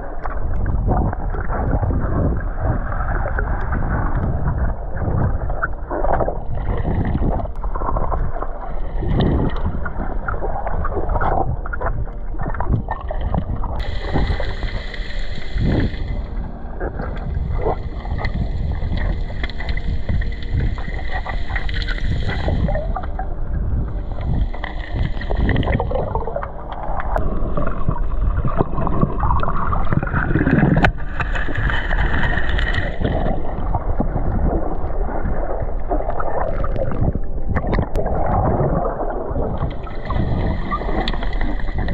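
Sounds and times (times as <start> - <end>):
bubbling: 0.0 - 41.9
high whine: 0.0 - 41.9
underwater rushing and gurgling: 0.0 - 41.9.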